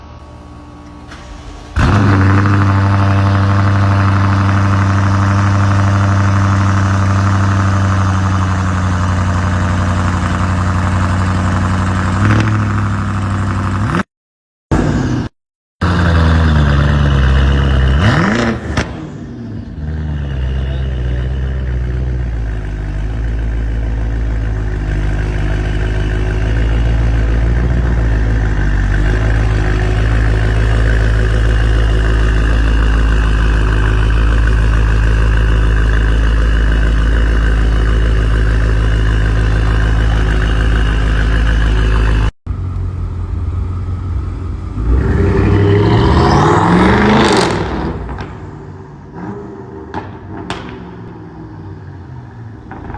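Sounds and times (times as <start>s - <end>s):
car engine revving and idling: 0.0s - 14.1s, 14.7s - 52.9s.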